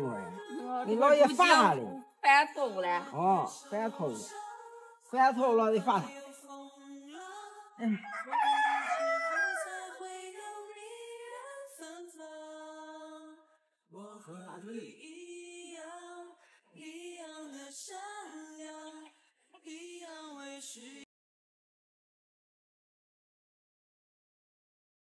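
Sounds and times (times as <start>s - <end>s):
person singing slow melody: 0.0s - 13.4s, 14.0s - 21.1s.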